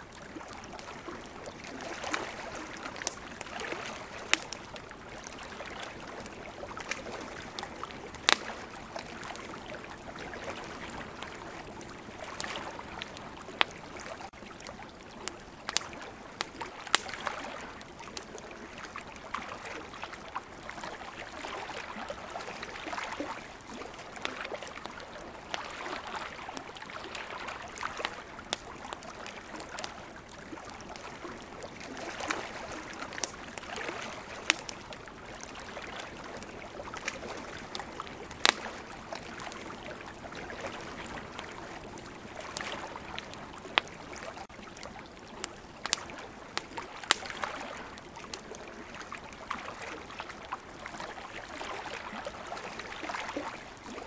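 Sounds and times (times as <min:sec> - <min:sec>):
campfire crackling and popping: 0:00.0 - 0:54.0
sea water washing: 0:00.0 - 0:54.0.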